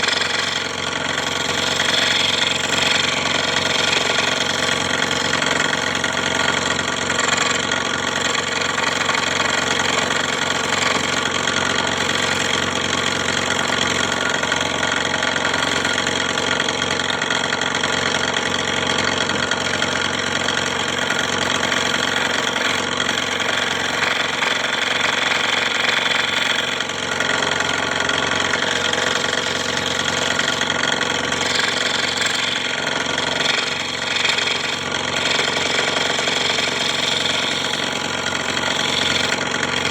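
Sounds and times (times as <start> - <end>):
scroll saw running: 0.0 - 39.9.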